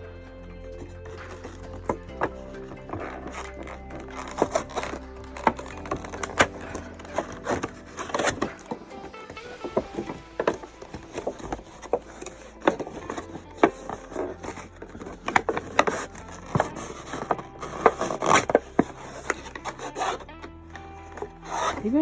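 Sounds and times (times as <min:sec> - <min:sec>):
plastic and cardboard packaging handled: 0:00.8 - 0:22.0.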